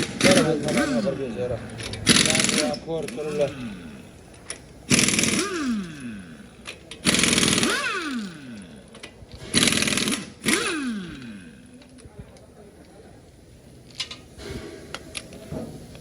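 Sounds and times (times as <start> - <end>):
pneumatic impact wrench bursts: 0.0 - 12.2, 13.2 - 16.0.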